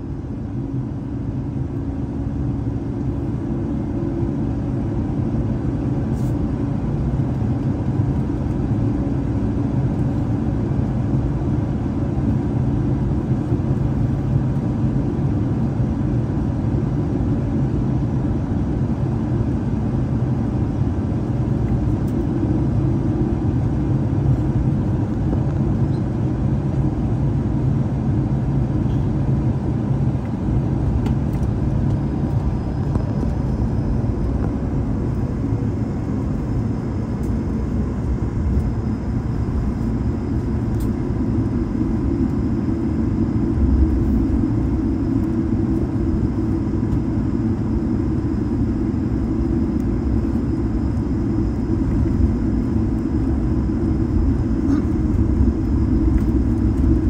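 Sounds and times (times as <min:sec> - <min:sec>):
aircraft engines rumbling in cabin: 0:00.0 - 0:57.0
faint steady engine tones: 0:00.0 - 0:57.0.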